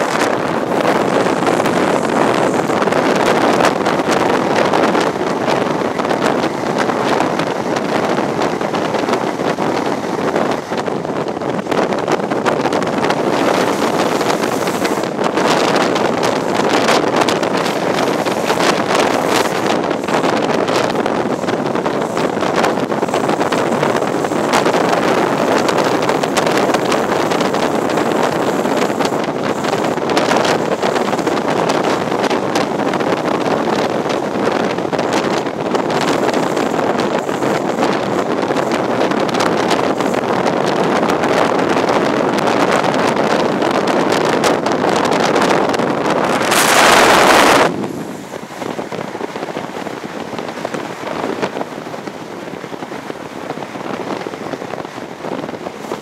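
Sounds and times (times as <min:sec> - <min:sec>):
train rushing through tunnel: 0:00.0 - 0:56.0
wind buffeting microphone: 0:00.0 - 0:56.0.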